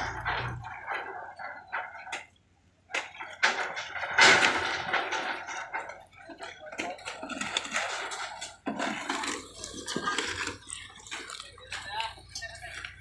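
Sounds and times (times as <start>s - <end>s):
construction knocks and clicks: 0.0s - 13.0s.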